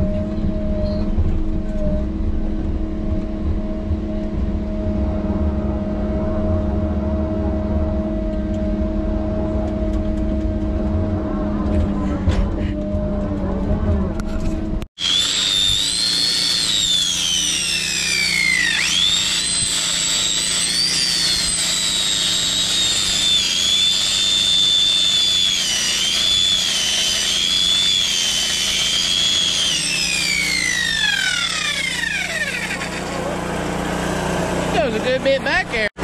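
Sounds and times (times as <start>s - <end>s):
angle grinder whining on metal: 0.0s - 36.0s
machine hum: 0.0s - 36.0s.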